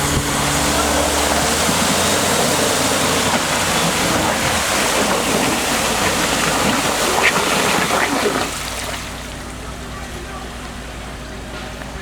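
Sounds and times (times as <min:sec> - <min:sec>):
car engine running low: 0:00.0 - 0:12.0
wheels splashing through mud: 0:00.0 - 0:12.0.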